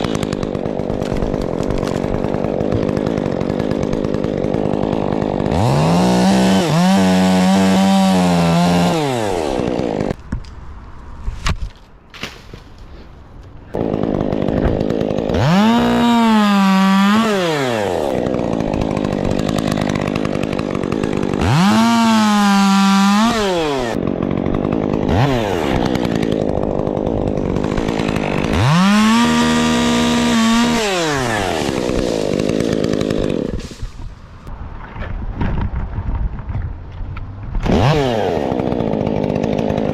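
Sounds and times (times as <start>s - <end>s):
chainsaw revving and idling: 0.0s - 10.2s, 13.7s - 34.5s, 37.6s - 39.9s.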